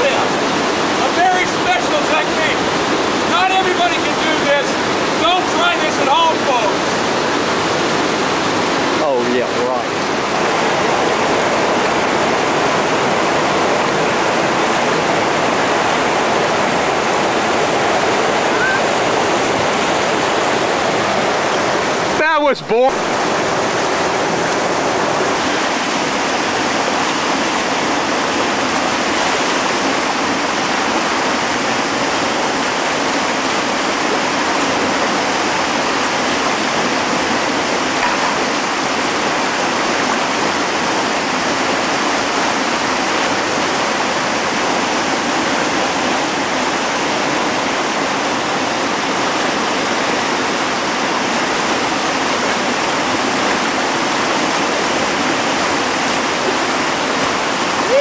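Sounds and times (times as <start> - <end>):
rapids rushing over rocks: 0.0 - 58.0.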